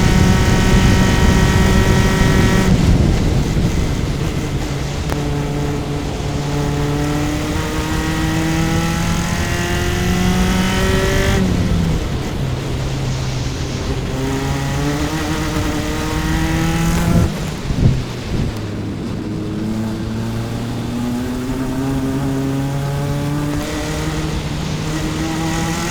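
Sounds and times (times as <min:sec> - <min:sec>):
race car engine at full throttle: 0:00.0 - 0:25.9.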